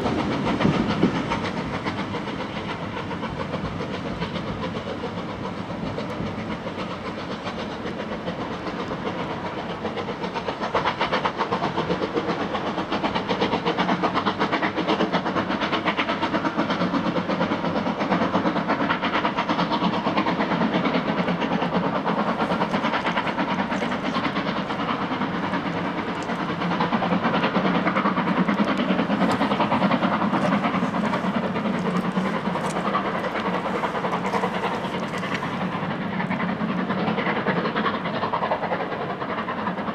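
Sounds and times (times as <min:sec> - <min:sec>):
steam locomotive exhaust beat: 0:00.0 - 0:39.9.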